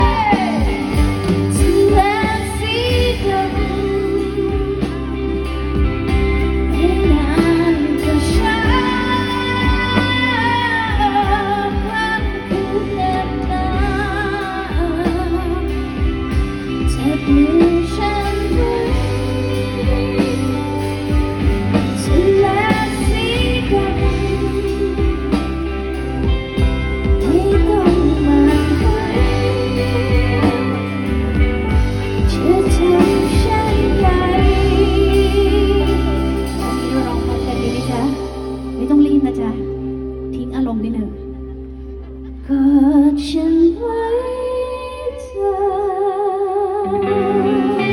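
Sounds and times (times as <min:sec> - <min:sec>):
pop band with bass and drums: 0:00.0 - 0:47.9
woman singing: 0:00.0 - 0:47.9.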